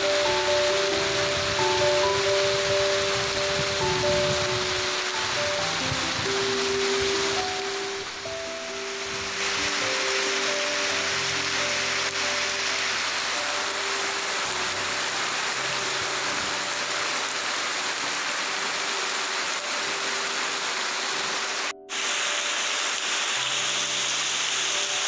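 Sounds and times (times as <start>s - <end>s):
faint sustained musical notes: 0.0s - 25.0s
heavy rain on trees and roof: 0.0s - 25.0s
water pouring off roof: 0.0s - 25.0s.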